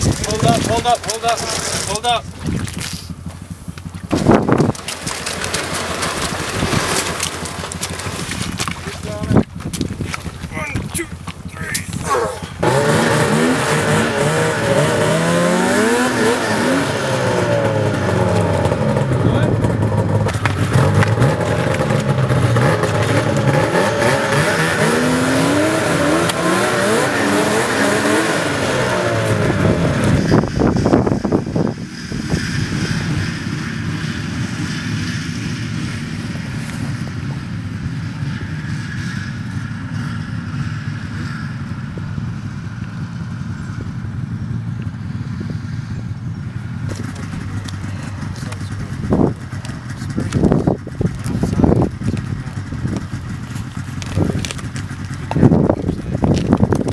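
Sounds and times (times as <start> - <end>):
engine revving: 0.0 - 9.4, 10.1 - 46.1, 46.7 - 56.9
engine running steadily: 0.0 - 56.9.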